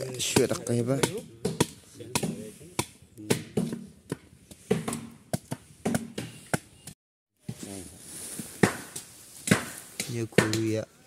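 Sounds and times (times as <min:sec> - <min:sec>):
blade chopping wooden log: 0:00.0 - 0:06.8, 0:08.6 - 0:10.7.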